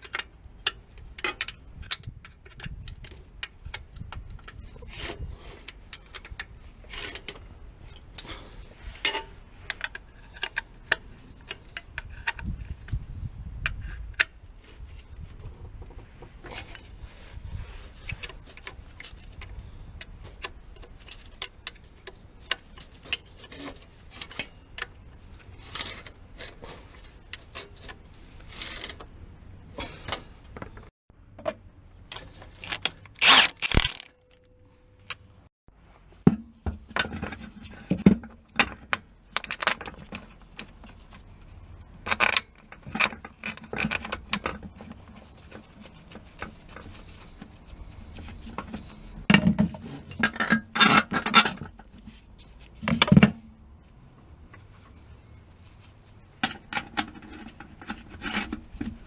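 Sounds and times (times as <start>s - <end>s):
tools and metal parts clanking: 0.0s - 13.0s, 13.6s - 17.0s, 17.6s - 35.2s, 36.2s - 53.6s, 56.4s - 59.0s.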